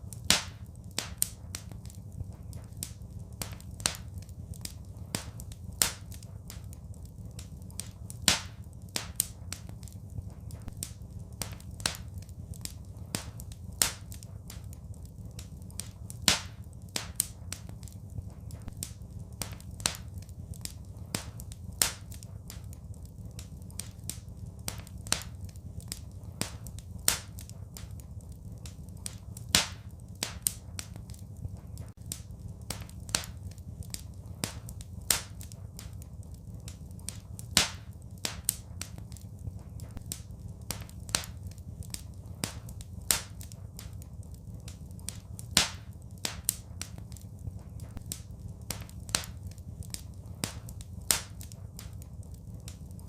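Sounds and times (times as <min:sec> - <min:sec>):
low fire rumble: 0:00.0 - 0:53.0
wood fire crackling and popping: 0:00.0 - 0:53.0.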